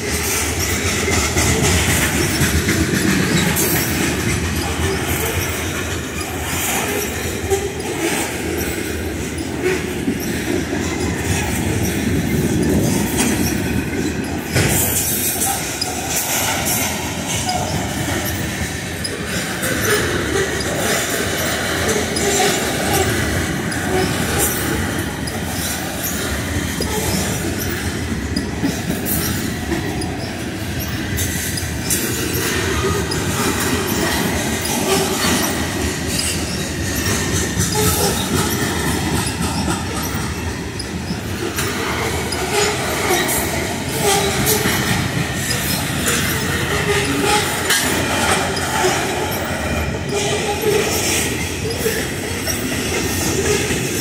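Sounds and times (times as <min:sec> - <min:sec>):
steel wheels rumbling on rails: 0:00.0 - 0:54.0
wheels clattering over rail joints: 0:00.0 - 0:54.0.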